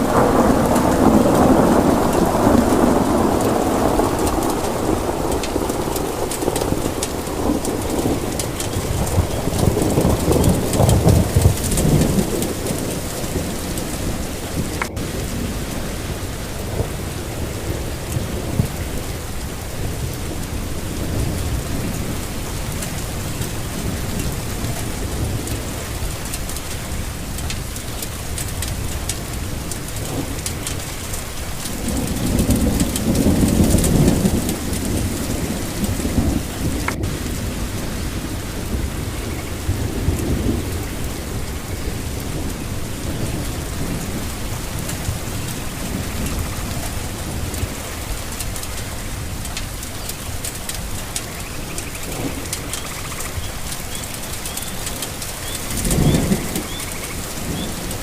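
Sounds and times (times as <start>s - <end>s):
rain falling: 0.0s - 58.0s
thunder rumbling: 0.0s - 58.0s.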